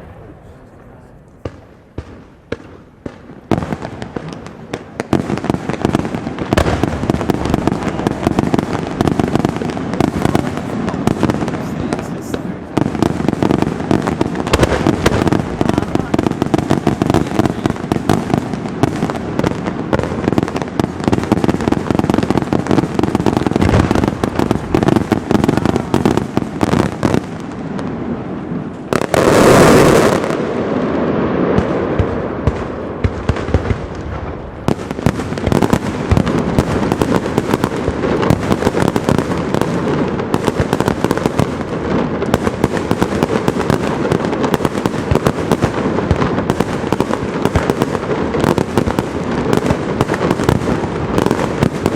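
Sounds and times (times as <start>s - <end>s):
fireworks bangs and crackles: 0.0s - 51.9s
loud firework blast: 1.4s - 51.9s.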